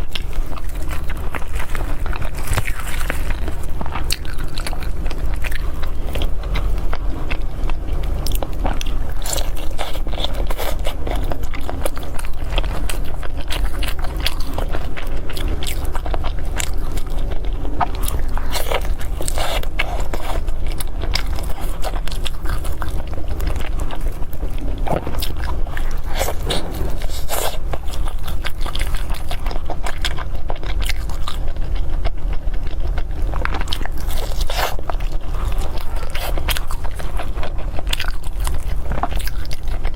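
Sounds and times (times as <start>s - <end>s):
chewing and wet mouth smacks: 0.0s - 39.9s
constant low hum: 0.0s - 39.9s
soft crunchy bites: 0.0s - 39.9s.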